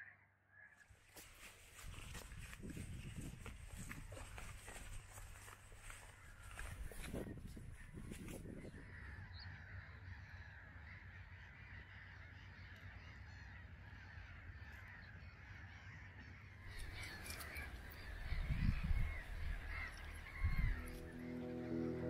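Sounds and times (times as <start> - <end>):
birds calling: 0.6 - 22.0.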